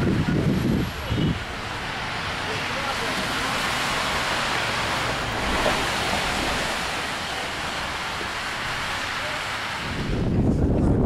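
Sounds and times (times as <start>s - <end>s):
rushing wind: 0.0s - 11.0s.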